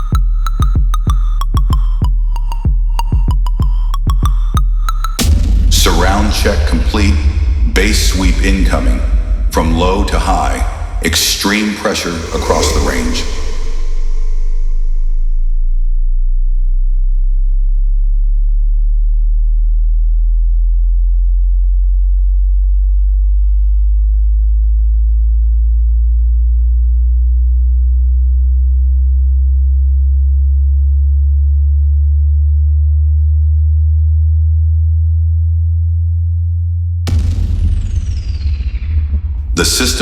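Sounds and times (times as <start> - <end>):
rising bass sine sweep: 0.0 - 40.0.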